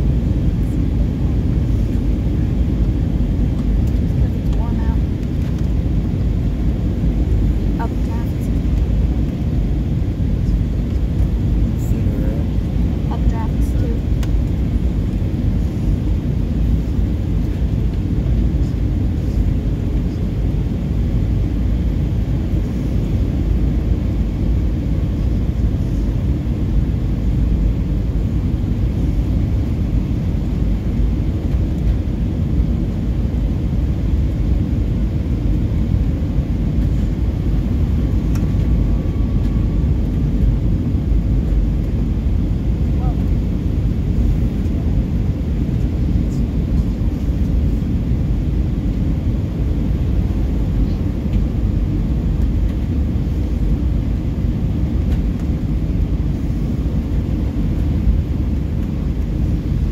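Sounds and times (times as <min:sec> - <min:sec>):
airflow over fuselage: 0:00.0 - 0:59.9
jet engine rumble: 0:00.0 - 0:59.9.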